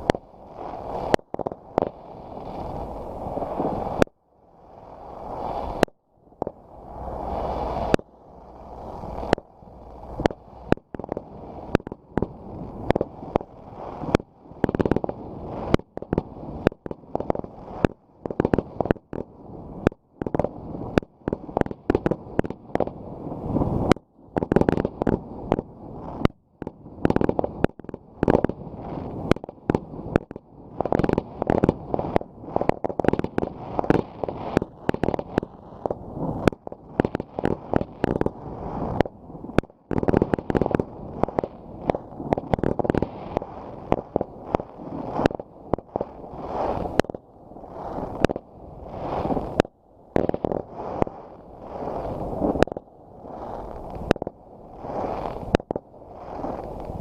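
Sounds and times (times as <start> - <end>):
fireworks bangs and cracks: 0.0 - 4.2, 4.9 - 57.0.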